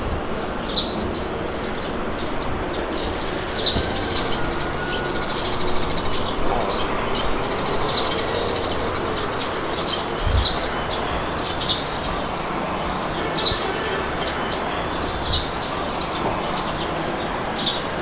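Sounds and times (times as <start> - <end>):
small birds chirping: 0.0 - 18.0
wind: 0.0 - 18.0.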